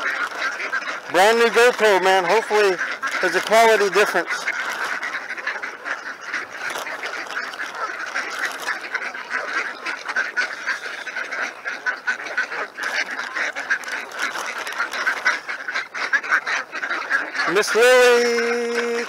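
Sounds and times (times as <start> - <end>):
ducks quacking: 0.0 - 19.0
geese honking: 0.0 - 19.0.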